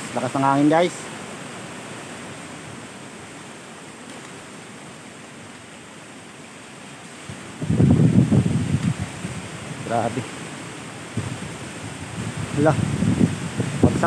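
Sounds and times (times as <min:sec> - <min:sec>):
strong wind through trees: 0:00.0 - 0:14.0.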